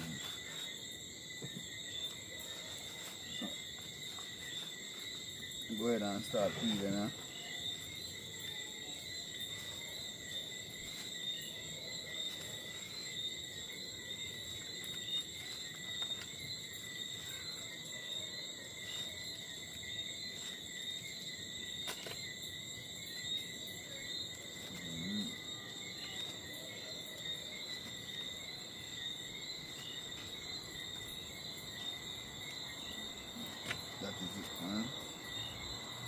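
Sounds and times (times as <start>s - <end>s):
night insects trilling: 0.0s - 36.0s.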